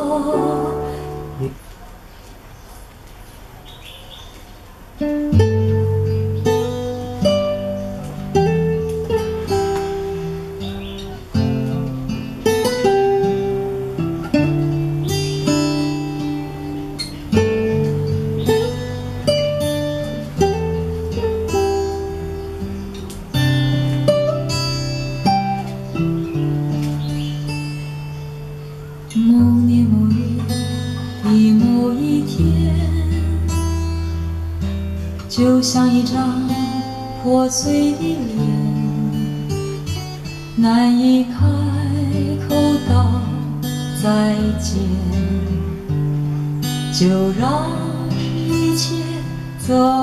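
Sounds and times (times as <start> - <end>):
guitar music over speakers: 0.0 - 1.8, 4.8 - 50.0.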